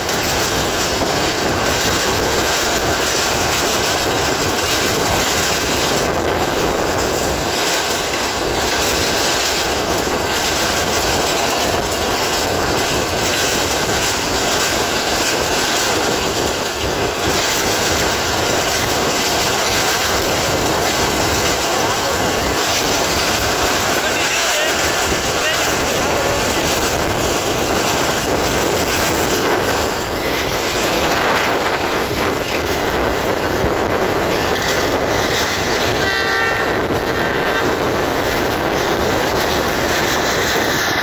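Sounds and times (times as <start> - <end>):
train wheels rushing on rails: 0.0 - 41.0.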